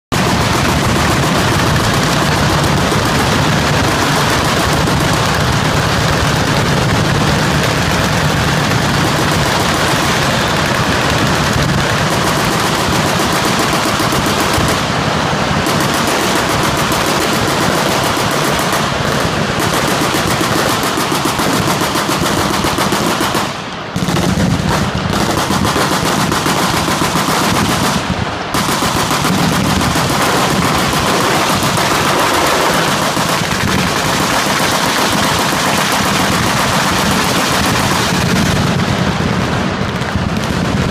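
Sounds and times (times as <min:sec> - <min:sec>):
machine guns firing: 0:00.1 - 0:40.9.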